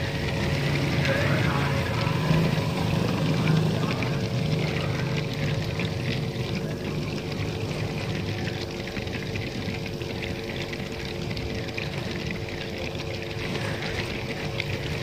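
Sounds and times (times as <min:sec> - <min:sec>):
air bubbling through liquid: 0:00.0 - 0:15.0
air pump humming: 0:00.0 - 0:15.0.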